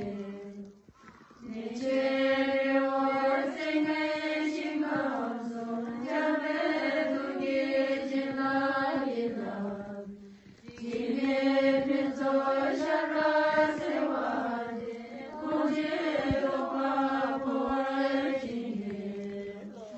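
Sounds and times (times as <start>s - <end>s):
voices chanting a mantra: 0.0s - 19.9s.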